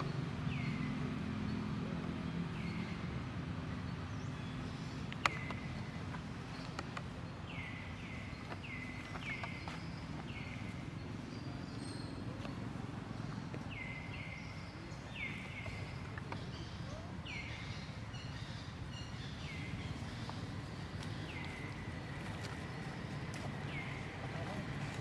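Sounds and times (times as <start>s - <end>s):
steady outdoor rumble: 0.0s - 25.0s.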